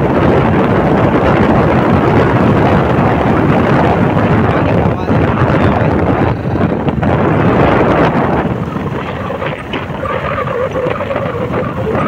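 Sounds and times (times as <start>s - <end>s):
motorbike running and road noise: 0.0s - 12.0s
wind rushing over microphone: 0.0s - 12.0s.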